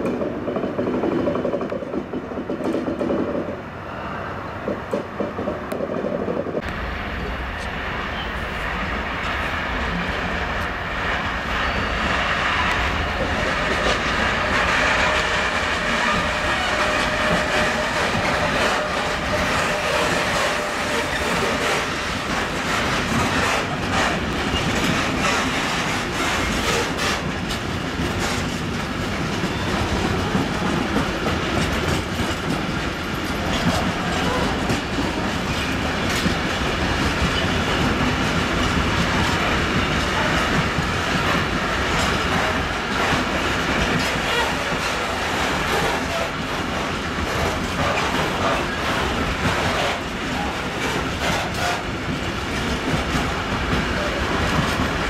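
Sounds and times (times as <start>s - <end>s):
train wheels running on rails: 0.0s - 55.0s.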